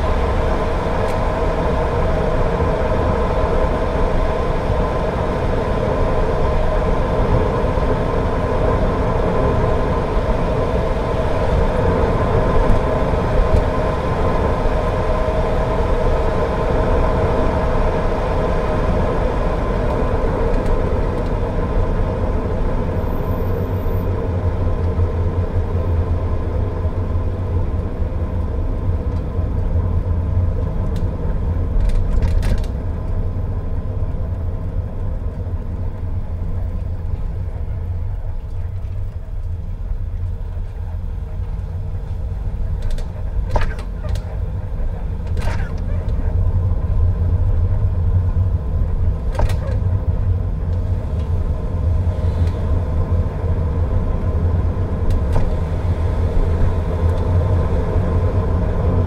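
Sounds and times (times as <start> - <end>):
car driving on wet road: 0.0 - 59.0.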